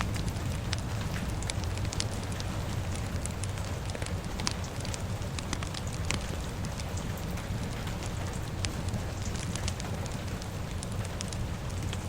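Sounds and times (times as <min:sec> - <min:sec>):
fire crackling and popping: 0:00.0 - 0:12.0
rain rumble: 0:00.0 - 0:12.0.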